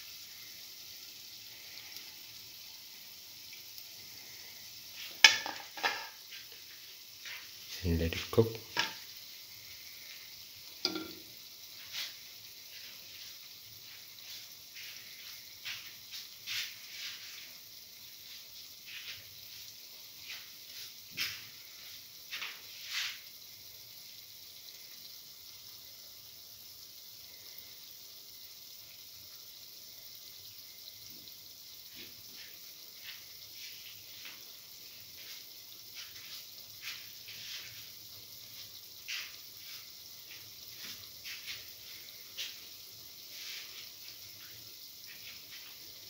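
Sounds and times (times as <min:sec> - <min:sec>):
fritters sizzling in oil: 0:00.0 - 0:46.0.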